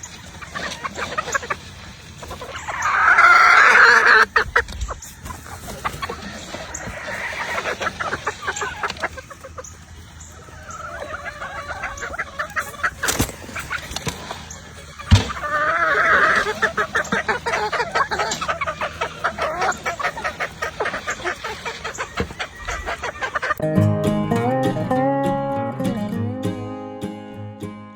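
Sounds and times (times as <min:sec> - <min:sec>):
chickens clucking: 0:00.0 - 0:27.4.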